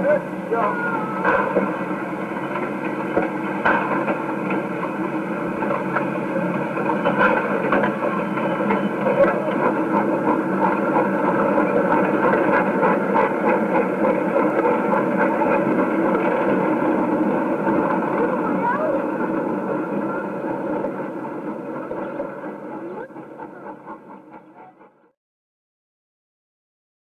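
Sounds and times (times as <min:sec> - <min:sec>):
steam train rumbling: 0:00.0 - 0:25.2
train clanks: 0:00.0 - 0:25.2.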